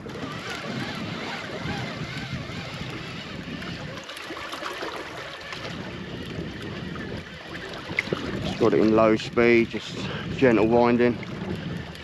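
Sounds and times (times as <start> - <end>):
water sloshing against boat hull: 0.0 - 12.0
wind buffeting microphone: 0.0 - 12.0.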